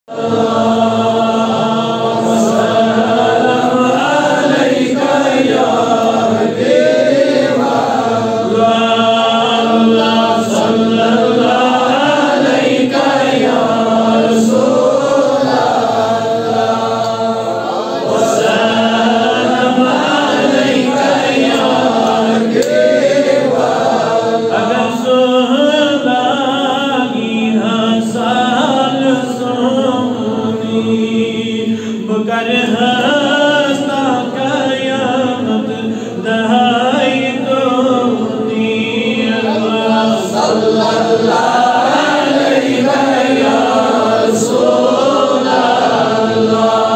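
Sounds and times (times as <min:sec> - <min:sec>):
man chanting through a microphone: 0:00.0 - 0:23.4, 0:24.0 - 0:46.9.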